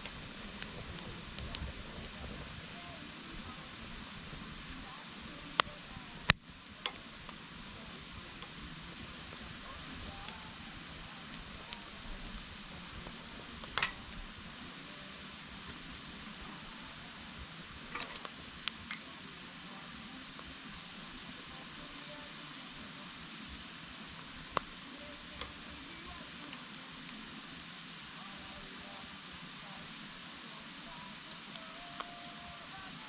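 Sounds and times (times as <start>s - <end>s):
campfire burning with crackles: 0.0s - 33.0s.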